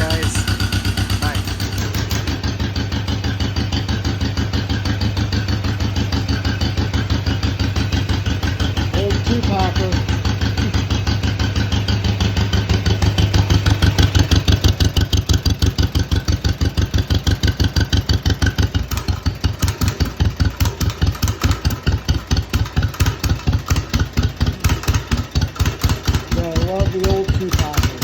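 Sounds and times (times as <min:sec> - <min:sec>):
tractor engine popping: 0:00.0 - 0:28.0.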